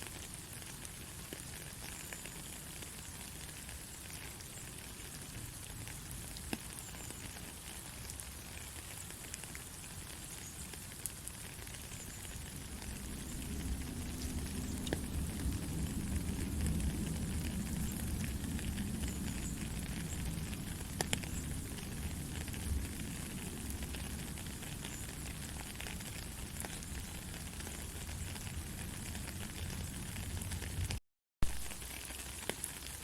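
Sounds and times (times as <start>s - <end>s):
raindrops ticking: 0.0s - 33.0s
steady rain falling: 0.0s - 33.0s.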